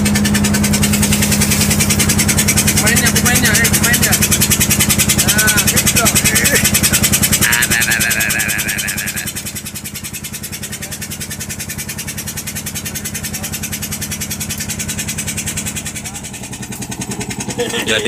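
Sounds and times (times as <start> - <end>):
boat engine knocking: 0.0 - 18.0.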